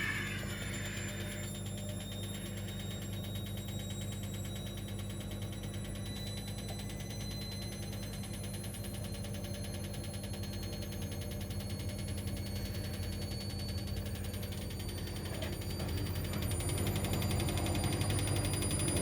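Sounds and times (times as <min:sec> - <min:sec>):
washing machine motor running: 0:00.0 - 0:19.0.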